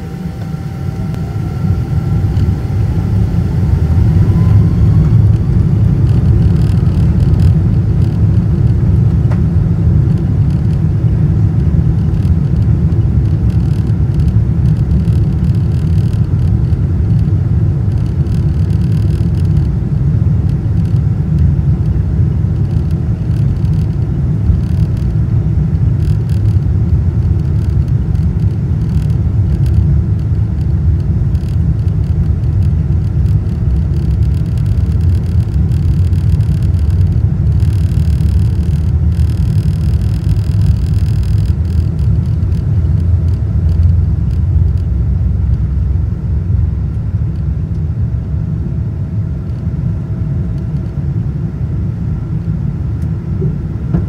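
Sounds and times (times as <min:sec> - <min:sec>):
jet engine whine: 0:00.0 - 0:54.0
jet engines rumbling: 0:00.0 - 0:54.0.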